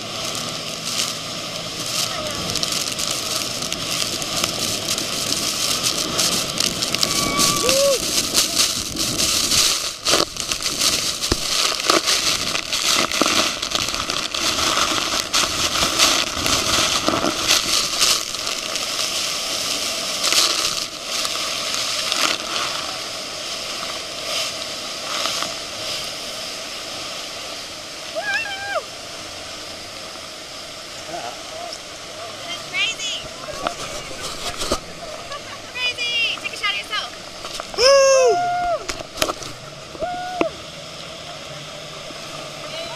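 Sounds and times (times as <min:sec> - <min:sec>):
water hitting microphone: 0:00.0 - 0:42.9
waterfall roaring hiss: 0:00.0 - 0:42.9.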